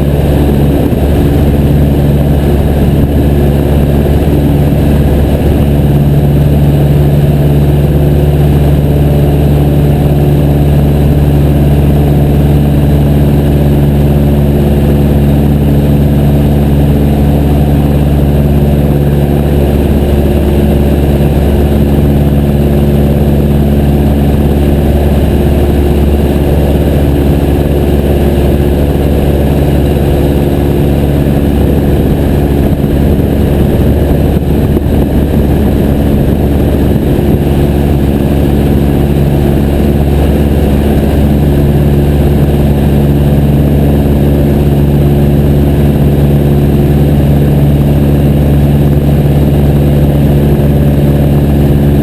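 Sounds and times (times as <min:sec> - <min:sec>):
light aircraft engine running: 0:00.0 - 0:52.0.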